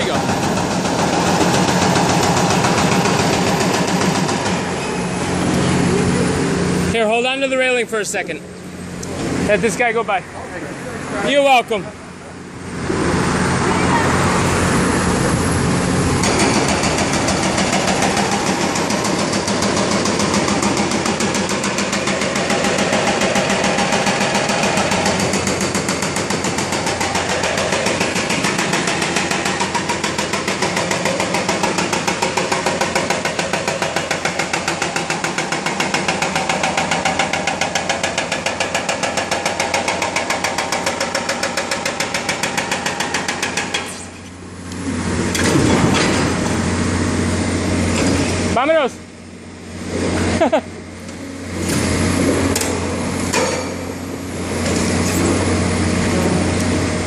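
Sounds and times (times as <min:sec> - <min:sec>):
hydraulic breaker pounding concrete: 0:00.0 - 0:08.4, 0:12.8 - 0:48.9, 0:49.7 - 0:57.0
excavator engine running: 0:00.0 - 0:57.0.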